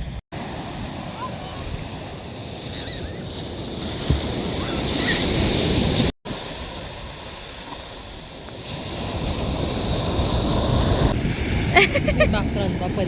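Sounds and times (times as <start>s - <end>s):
ocean surf washing in: 0.0s - 13.0s
wind on microphone: 0.0s - 13.0s.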